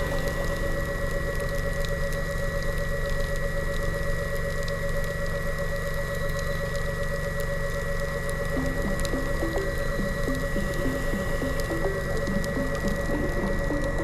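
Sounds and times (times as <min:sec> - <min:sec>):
electric motor whine underwater: 0:00.0 - 0:04.3, 0:06.2 - 0:14.0.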